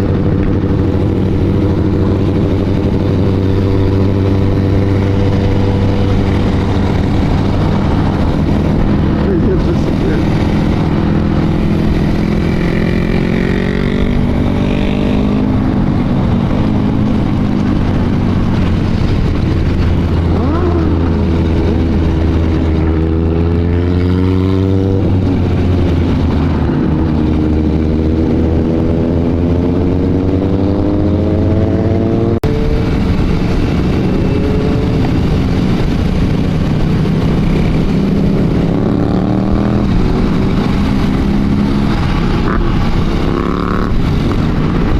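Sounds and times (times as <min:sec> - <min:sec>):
motorcycle engine accelerating: 0:00.0 - 0:44.9
road noise: 0:00.0 - 0:44.9.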